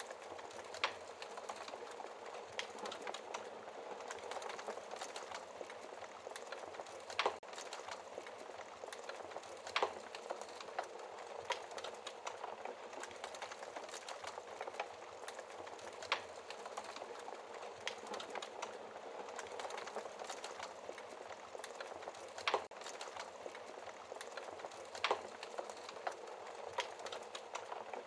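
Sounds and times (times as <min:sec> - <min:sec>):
fire hissing and crackling: 0:00.0 - 0:28.0
logs popping: 0:04.1 - 0:28.0.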